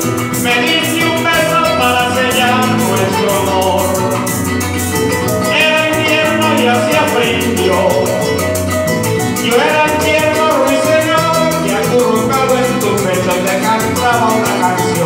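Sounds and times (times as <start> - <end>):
cuatro and bass: 0.0 - 15.0
maracas shaking: 0.0 - 15.0.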